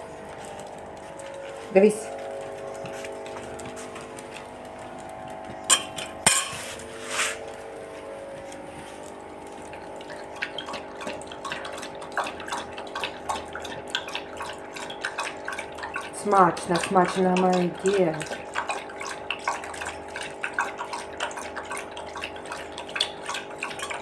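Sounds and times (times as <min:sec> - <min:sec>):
dog lapping water: 0:00.0 - 0:24.0.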